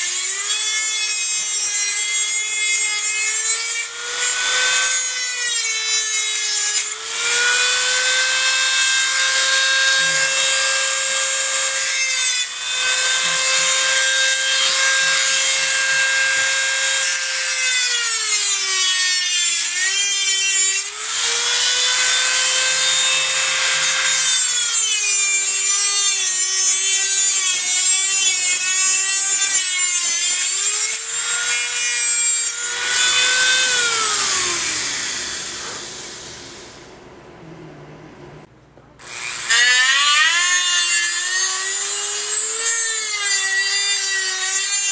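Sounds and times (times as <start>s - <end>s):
rotary tool cutting sheet metal: 0.0s - 36.6s, 39.0s - 44.9s.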